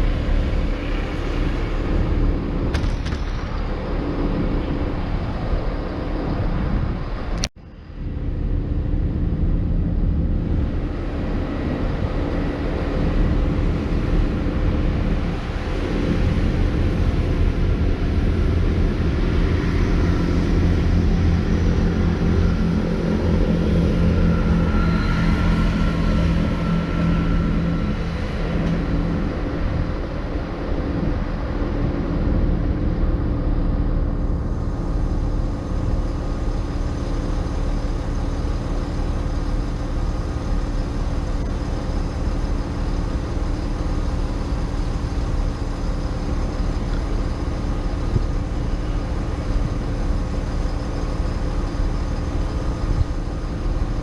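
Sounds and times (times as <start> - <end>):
diesel train engines humming: 0.0 - 54.0.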